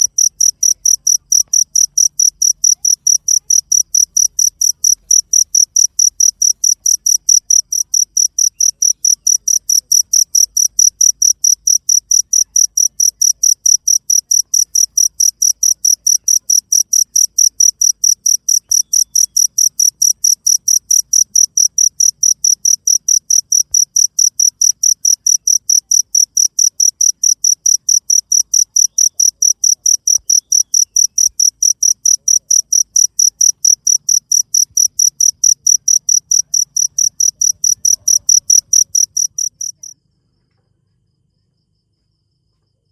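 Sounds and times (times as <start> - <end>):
cricket chirping: 0.0 - 42.9.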